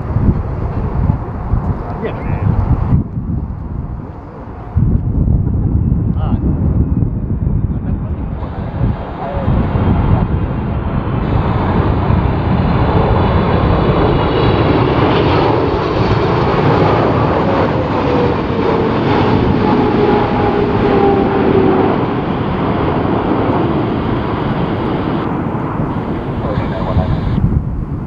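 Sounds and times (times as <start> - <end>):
jet engines passing low: 0.0 - 28.0.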